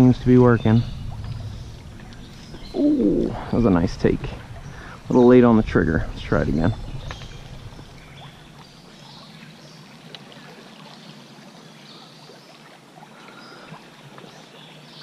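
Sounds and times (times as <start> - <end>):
stream water rushing and trickling: 0.0 - 15.0.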